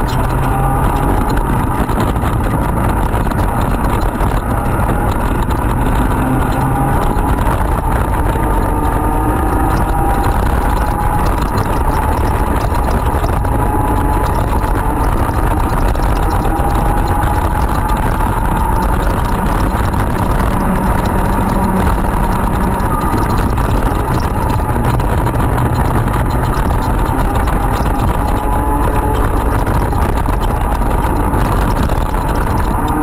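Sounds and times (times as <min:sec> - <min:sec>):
kart engine at high revs: 0:00.0 - 0:33.0.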